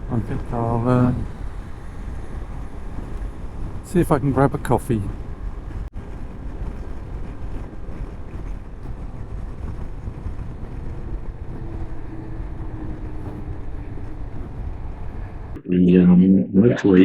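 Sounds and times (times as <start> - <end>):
wind rushing over microphone: 0.0 - 15.6.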